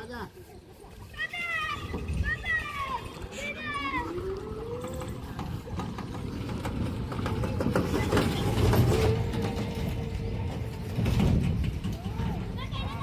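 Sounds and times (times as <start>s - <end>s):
vehicle engine rumbling: 1.7s - 13.0s.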